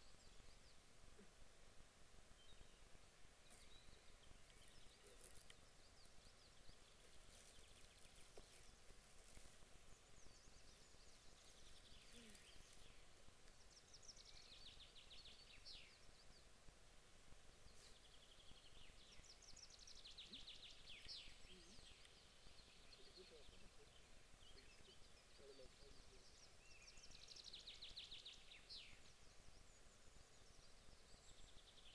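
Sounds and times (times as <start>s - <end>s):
faint birdsong: 0.0s - 31.9s.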